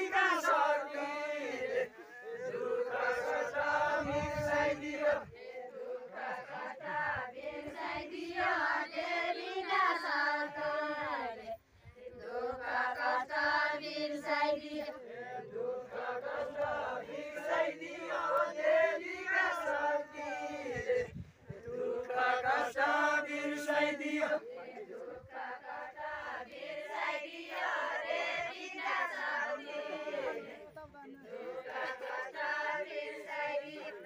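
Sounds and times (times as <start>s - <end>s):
group singing folk song: 0.0s - 34.0s.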